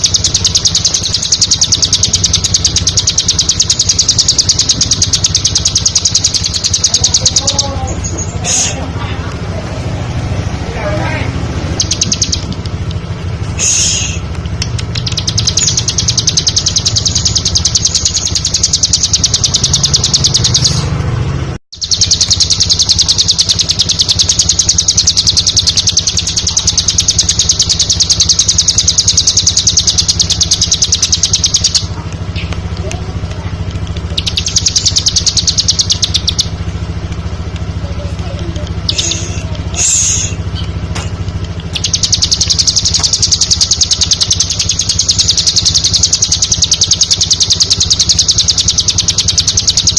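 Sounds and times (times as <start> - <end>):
bird singing rapid trill: 0.0 - 8.8, 10.1 - 12.9, 13.6 - 21.0, 21.7 - 33.2, 33.8 - 49.9
steady low hum: 0.0 - 49.9.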